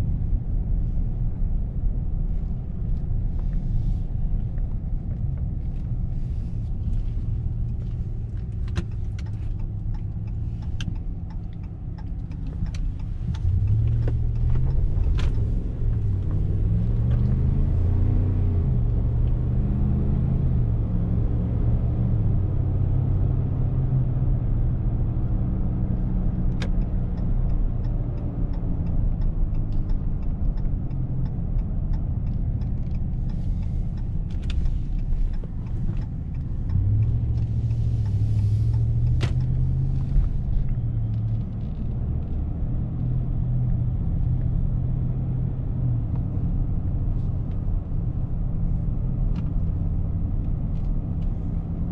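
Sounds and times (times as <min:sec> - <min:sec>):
truck engine accelerating: 0:10.2 - 0:51.9.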